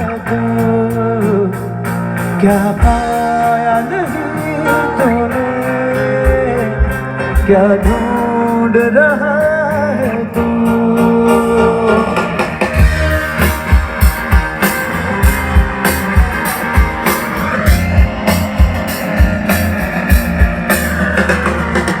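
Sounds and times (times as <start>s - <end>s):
drum beats: 0.0s - 22.0s
live band playing instrumental: 0.0s - 22.0s.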